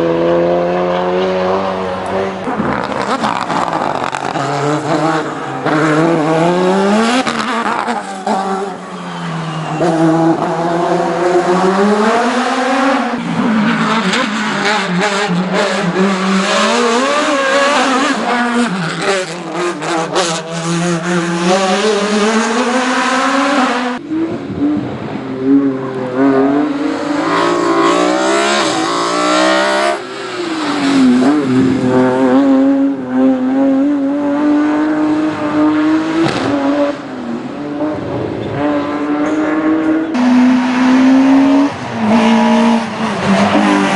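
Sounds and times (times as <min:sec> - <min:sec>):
race car engines revving: 0:00.0 - 0:43.9.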